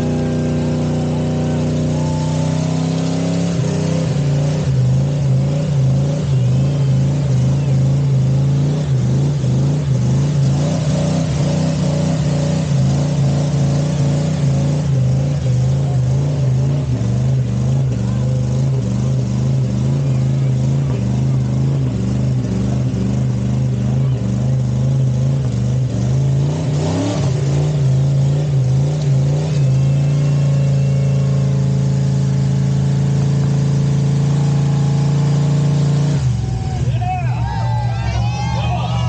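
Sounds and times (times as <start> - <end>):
truck engine at high revs: 0.0 - 39.0.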